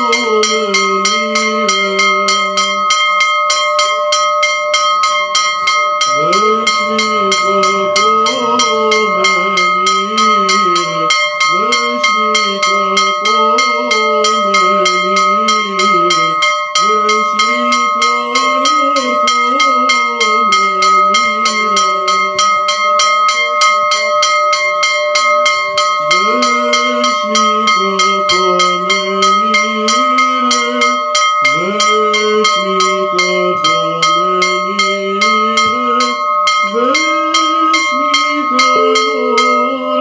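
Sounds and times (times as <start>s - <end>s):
slow memorial chanting: 0.0s - 3.6s, 4.8s - 40.0s
bell rung fast: 0.0s - 40.0s.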